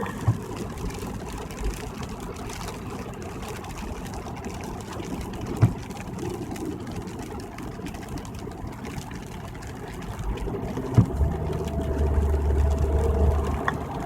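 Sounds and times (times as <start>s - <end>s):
car engine and road rumble: 0.0s - 14.0s
tyres hissing on wet pavement: 0.0s - 14.0s.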